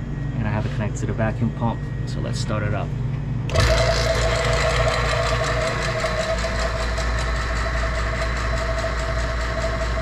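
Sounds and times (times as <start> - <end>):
vacuum pump humming: 0.0 - 10.0.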